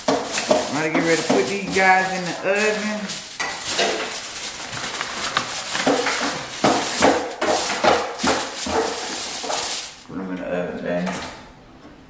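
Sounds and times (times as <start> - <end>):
aluminum foil crinkling: 0.0 - 10.1.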